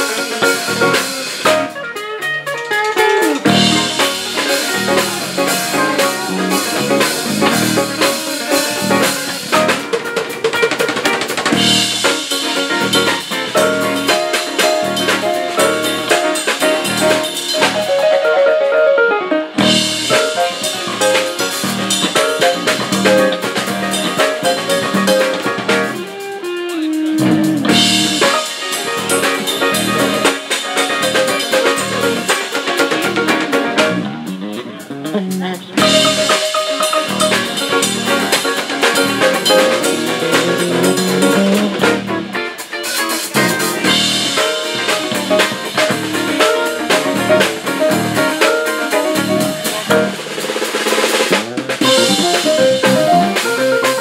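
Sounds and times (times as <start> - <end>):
electric bass: 0.0 - 10.0, 11.4 - 17.9, 19.5 - 42.5, 43.2 - 54.0
drum kit beat: 0.0 - 18.8, 19.4 - 54.0
electric and acoustic guitars: 0.0 - 54.0
keyboard: 0.0 - 54.0.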